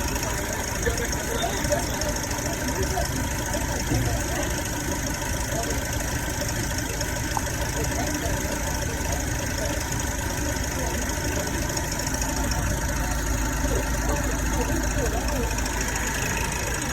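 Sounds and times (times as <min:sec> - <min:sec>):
car engine running: 0:00.0 - 0:16.9
engine rattle: 0:00.0 - 0:16.9.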